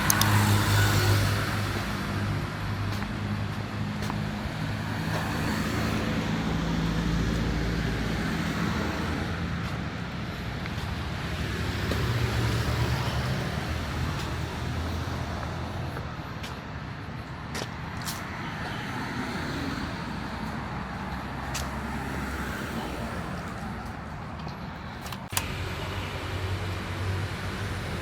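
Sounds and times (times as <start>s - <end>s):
road noise: 0.0s - 28.0s
vehicle engines passing: 0.0s - 28.0s.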